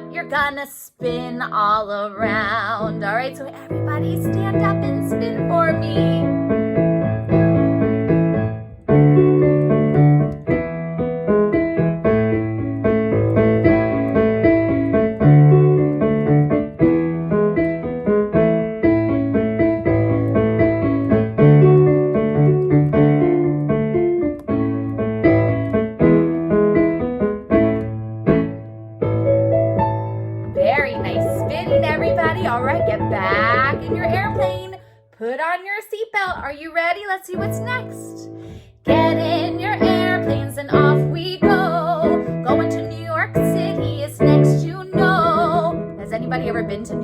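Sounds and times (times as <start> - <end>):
upbeat piano music: 0.0 - 47.0.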